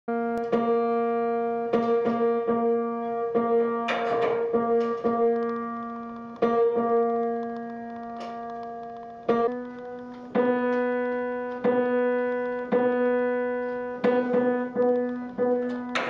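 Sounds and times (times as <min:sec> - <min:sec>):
piano note struck and ringing: 0:00.1 - 0:16.0.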